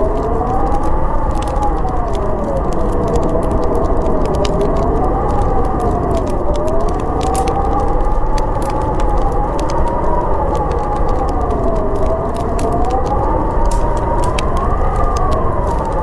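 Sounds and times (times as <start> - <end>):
howling storm wind: 0.0 - 16.0
wood fire crackling: 0.0 - 16.0.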